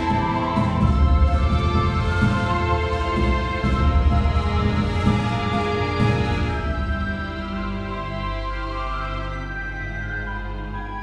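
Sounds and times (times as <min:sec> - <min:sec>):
soundtrack music held notes: 0:00.0 - 0:11.0.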